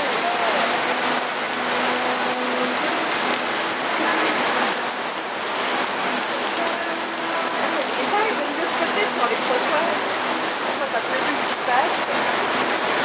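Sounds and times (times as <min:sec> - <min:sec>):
car driving through floodwater: 0:00.0 - 0:13.0
heavy rain pouring on street: 0:00.0 - 0:13.0.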